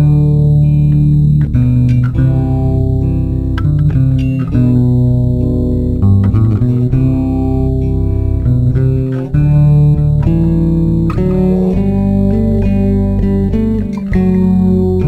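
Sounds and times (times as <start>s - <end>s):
plucked guitar with bass: 0.0s - 15.0s.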